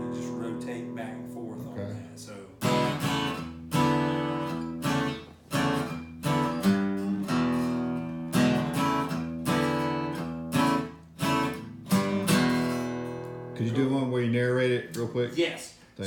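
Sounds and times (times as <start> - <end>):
acoustic guitar strumming riff: 0.0 - 14.7.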